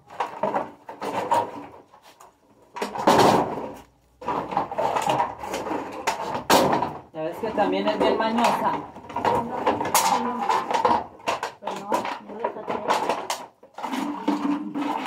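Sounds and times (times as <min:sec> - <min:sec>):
plastic bottles and bags crackling: 0:00.0 - 0:15.0.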